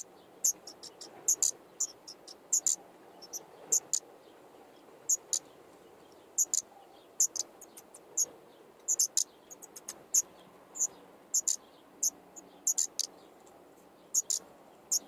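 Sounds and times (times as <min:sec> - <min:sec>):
nestlings chirping: 0:00.0 - 0:04.1, 0:05.1 - 0:15.0.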